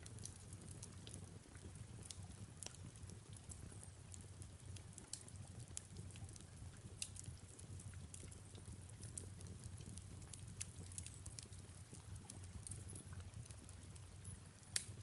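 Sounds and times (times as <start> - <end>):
fireplace crackling: 0.0 - 15.0
soft rain: 0.0 - 15.0.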